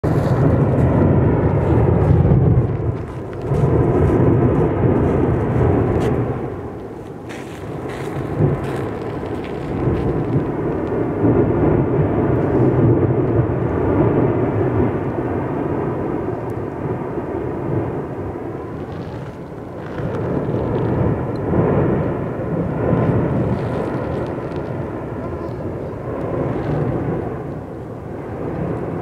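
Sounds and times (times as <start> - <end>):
volcanic vent deep rumble: 0.0 - 29.0.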